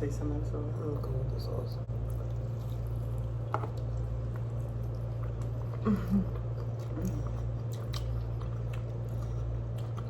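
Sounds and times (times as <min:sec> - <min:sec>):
steady low hum: 0:00.0 - 0:10.0
person chewing: 0:01.9 - 0:10.0.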